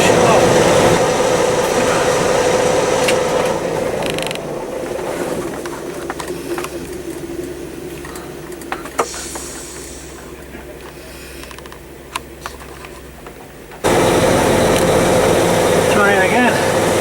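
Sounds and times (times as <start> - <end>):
vehicle running hum: 0.0 - 17.0.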